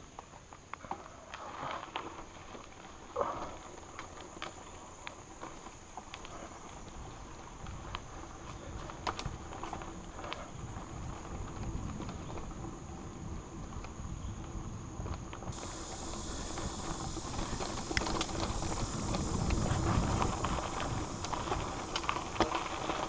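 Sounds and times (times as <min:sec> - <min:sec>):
bike clicks and rattles: 0:00.1 - 0:23.0
bike tyres rumbling: 0:00.3 - 0:23.0
high insect drone: 0:00.4 - 0:23.0.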